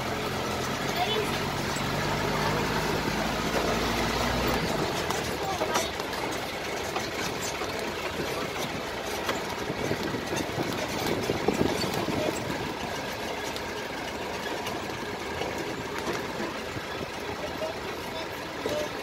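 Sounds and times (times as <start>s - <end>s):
vehicle engine running: 0.0s - 19.0s
rattles and knocks: 3.2s - 19.0s.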